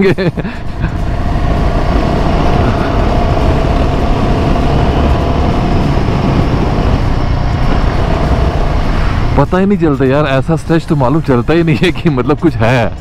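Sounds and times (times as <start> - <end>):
wind noise on microphone: 0.0 - 12.2
road rumble: 0.0 - 13.0
motorcycle engine running: 0.4 - 12.0.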